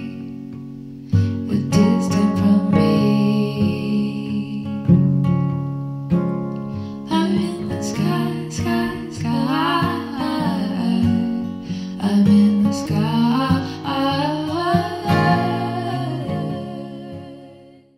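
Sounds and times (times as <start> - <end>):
picked acoustic guitar: 0.0 - 17.9
person singing: 1.2 - 5.1, 7.0 - 17.9.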